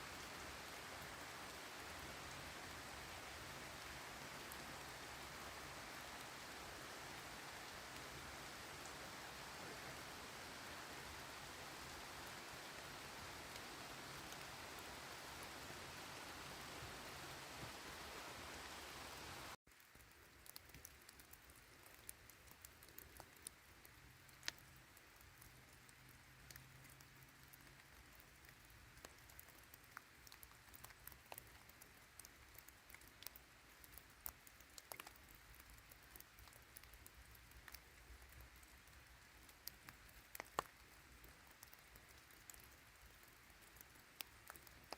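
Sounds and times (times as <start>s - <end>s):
raindrops tapping close by: 0.0s - 44.9s
steady rain hiss: 0.0s - 44.9s.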